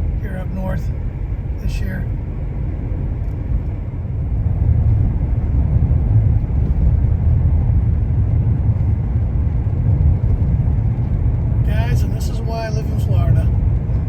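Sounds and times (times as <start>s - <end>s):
car engine rumble: 0.0s - 14.0s
tyre noise on snowy road: 0.0s - 14.0s.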